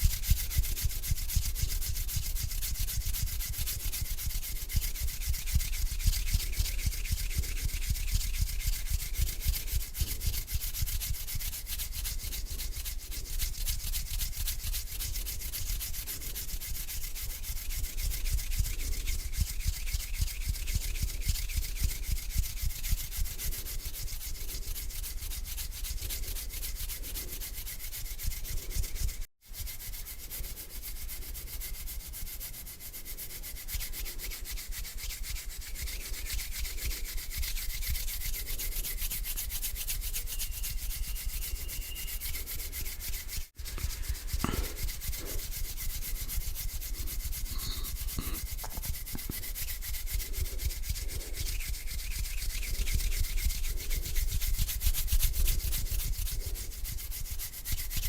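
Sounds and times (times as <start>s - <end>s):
hands rubbing together: 0.0s - 58.0s.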